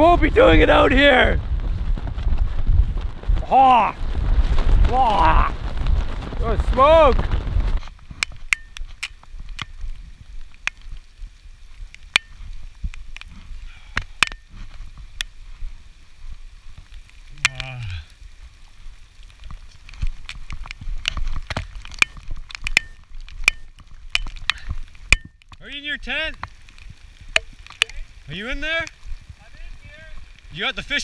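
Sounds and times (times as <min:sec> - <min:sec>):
low wind rumble: 0:00.0 - 0:25.4
heavy rain: 0:00.0 - 0:31.0
raindrops tapping near microphone: 0:00.0 - 0:31.0.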